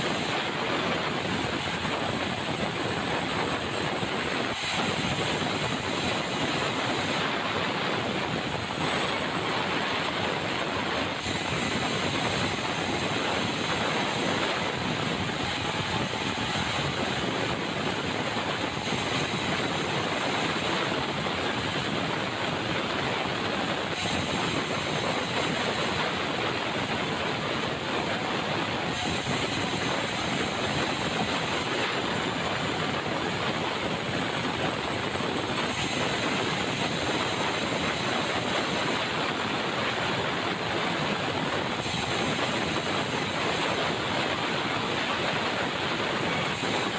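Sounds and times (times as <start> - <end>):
sawmill machinery running: 0.0 - 40.7.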